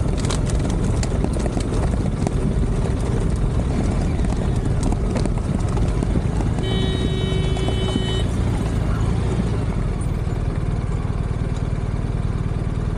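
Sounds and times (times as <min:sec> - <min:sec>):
motorcycle engine rumbling: 0:00.0 - 0:12.9.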